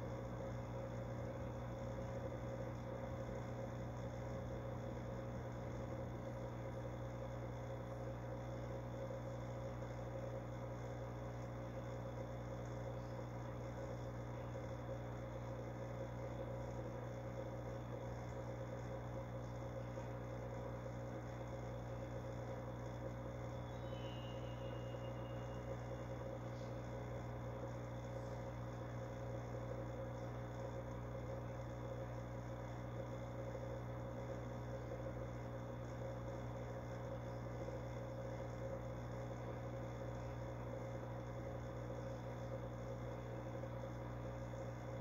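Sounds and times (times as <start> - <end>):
fish tank pump humming: 0.0 - 45.0.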